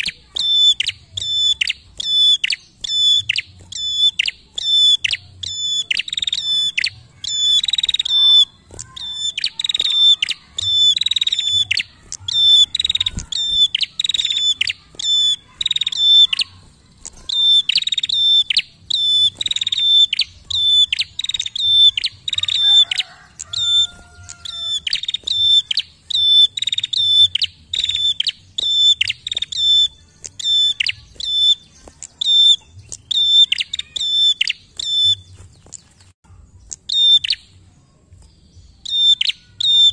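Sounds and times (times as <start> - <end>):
caged bird singing: 0.0 - 39.9.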